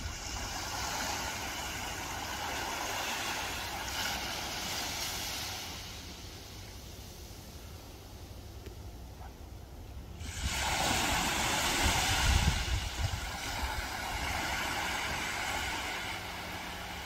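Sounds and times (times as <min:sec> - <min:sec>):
wind rumbling on microphone: 0:00.0 - 0:06.1, 0:09.2 - 0:17.0
sea surf washing in: 0:00.0 - 0:08.4, 0:10.0 - 0:17.0.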